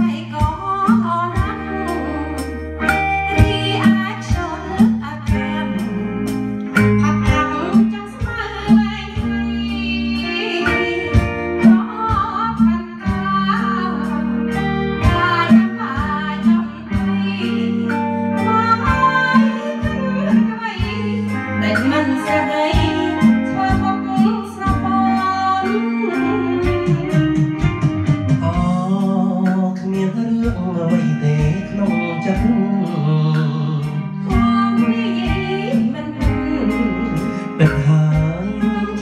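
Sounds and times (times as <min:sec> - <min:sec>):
electric guitars: 0:00.0 - 0:39.0
electronic drum beat: 0:00.0 - 0:39.0
woman singing into microphone: 0:00.0 - 0:39.0.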